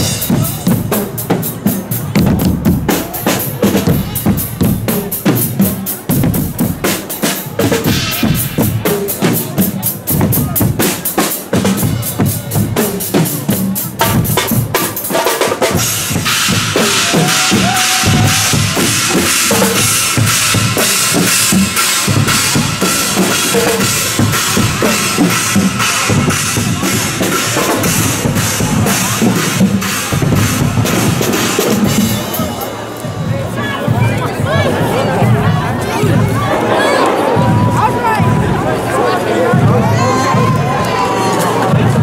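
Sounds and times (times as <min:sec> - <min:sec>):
bass and snare drums: 0:00.0 - 0:42.0
carnival brass band playing: 0:00.0 - 0:42.0.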